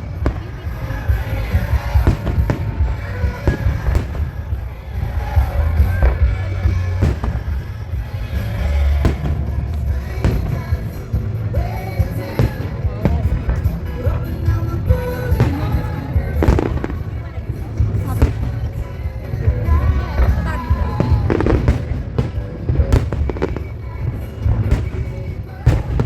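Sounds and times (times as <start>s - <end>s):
deep rumble: 0.0s - 26.0s
fireworks bangs: 0.0s - 26.0s
music playing: 0.0s - 26.0s.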